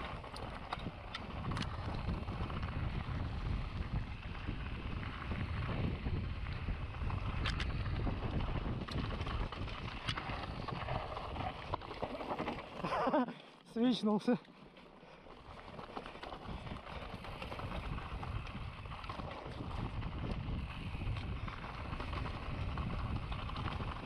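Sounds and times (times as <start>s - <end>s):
wind buffeting microphone: 0.0s - 13.0s, 15.4s - 24.0s
bike clicks and rattles: 0.0s - 24.0s.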